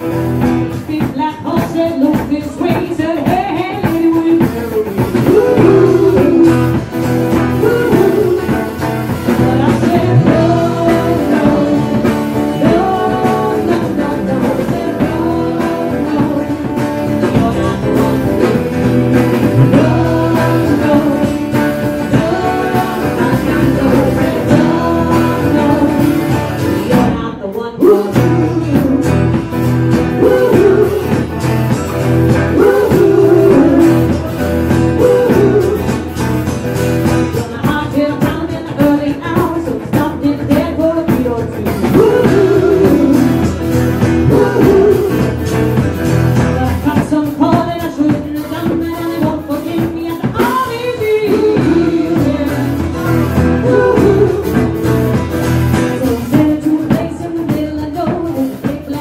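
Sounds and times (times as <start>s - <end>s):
acoustic guitar: 0.0s - 59.0s
drum kit: 0.0s - 59.0s
electric guitars: 0.0s - 59.0s
woman singing into a microphone: 0.5s - 36.3s, 37.1s - 59.0s.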